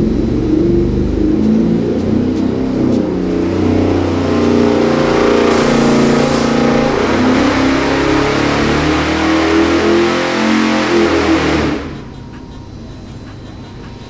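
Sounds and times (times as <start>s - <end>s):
engine revving on a dyno: 0.0s - 12.2s.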